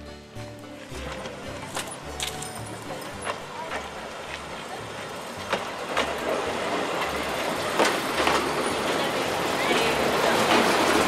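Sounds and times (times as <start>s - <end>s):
train wheels clicking over rail joints: 0.6s - 11.0s.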